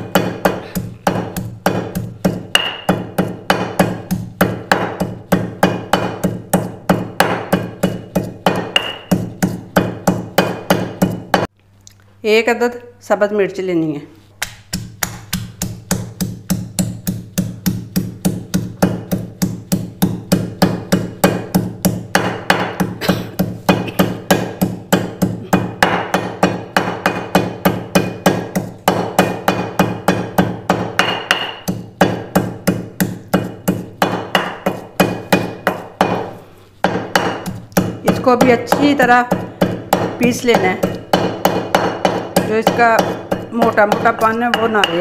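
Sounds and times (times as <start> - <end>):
stone pestle pounding in mortar: 0.0 - 11.5, 14.4 - 45.0.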